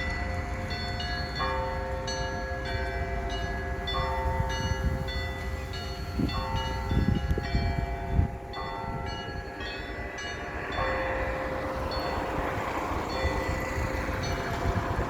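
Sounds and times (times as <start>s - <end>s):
large bell humming: 0.0s - 15.0s
small church bells ringing: 0.0s - 15.0s.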